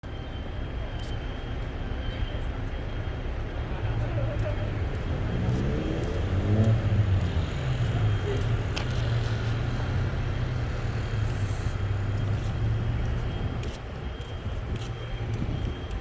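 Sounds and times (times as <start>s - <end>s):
vehicle engine droning: 2.4s - 16.0s.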